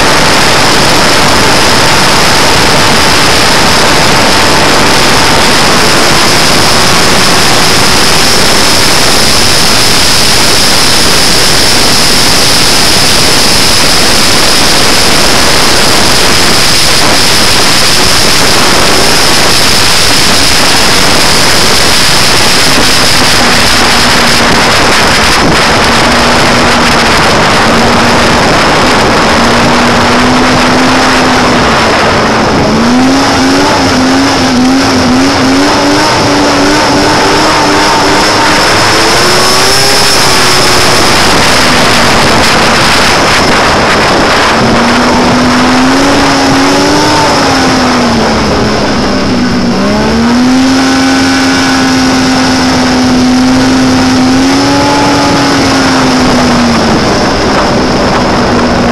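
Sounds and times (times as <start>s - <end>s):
snowmobile engine whine: 0.0s - 58.9s
wind rushing: 0.0s - 58.9s.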